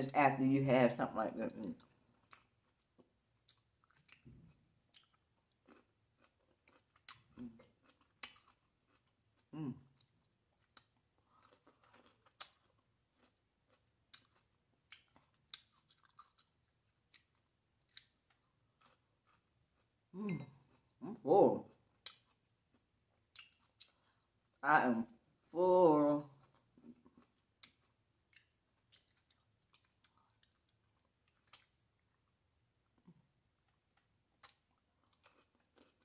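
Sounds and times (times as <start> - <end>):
chewing grapes: 1.5 - 24.6, 26.2 - 36.0.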